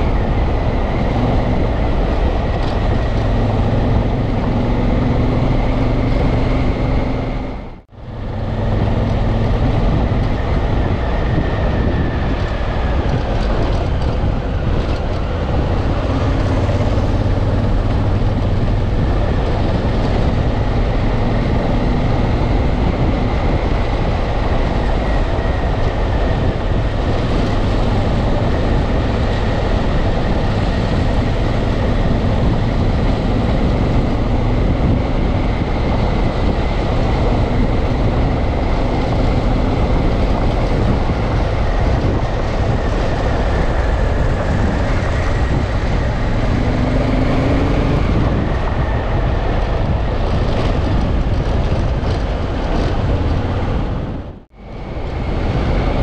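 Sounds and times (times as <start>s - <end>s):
motorcycle engine cruising: 0.0s - 56.0s
wind rush on microphone: 0.0s - 56.0s.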